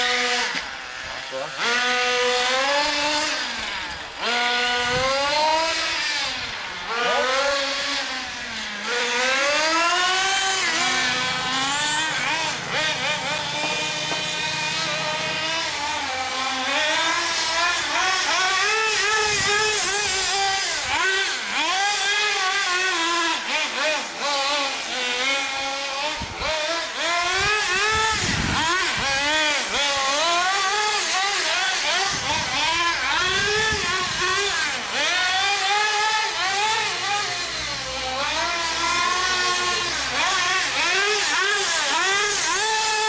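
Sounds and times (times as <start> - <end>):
rc car engines revving: 0.0 - 43.0.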